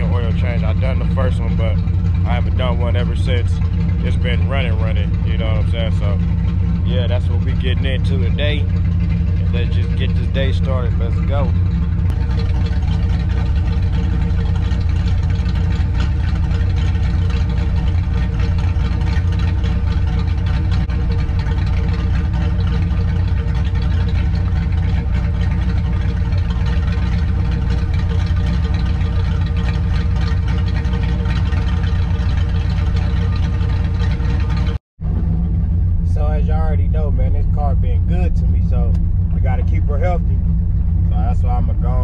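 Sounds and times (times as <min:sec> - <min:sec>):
car engine running steadily: 0:00.0 - 0:42.0.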